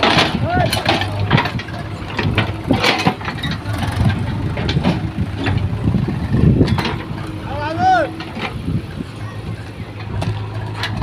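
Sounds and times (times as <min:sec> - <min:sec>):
diesel machinery running: 0:00.0 - 0:11.0
metallic clanks and knocks: 0:00.0 - 0:11.0.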